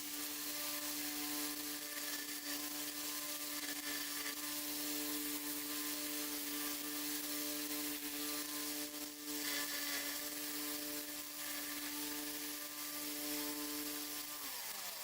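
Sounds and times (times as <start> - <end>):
bench power tool running: 0.0 - 15.0.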